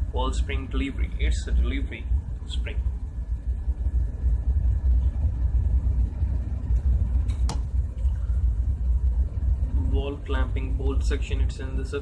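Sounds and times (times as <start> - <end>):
deep machinery rumble: 0.0 - 12.0.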